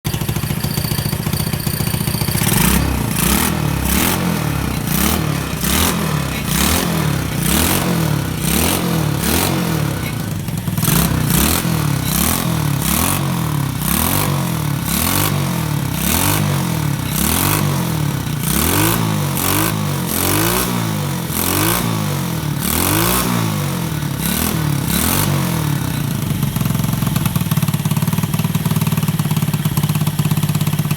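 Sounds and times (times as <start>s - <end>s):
engine idling and revving: 0.1s - 30.9s.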